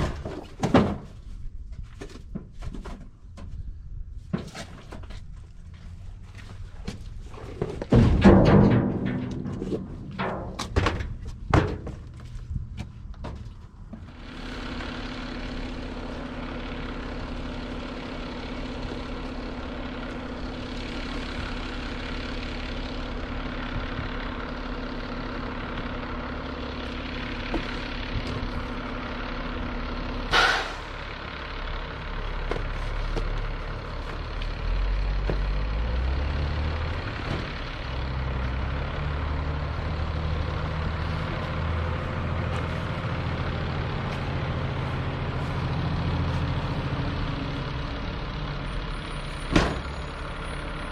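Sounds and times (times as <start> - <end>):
truck engine running: 3.1 - 50.9.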